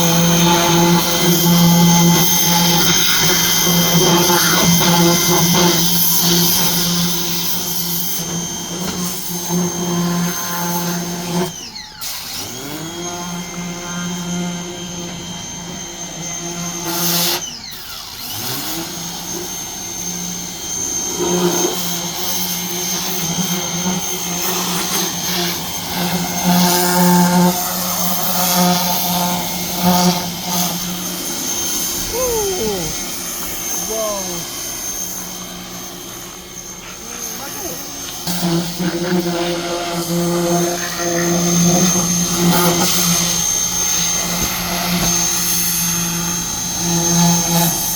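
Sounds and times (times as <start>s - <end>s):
pressure washer motor humming: 0.0s - 13.8s, 14.6s - 47.9s.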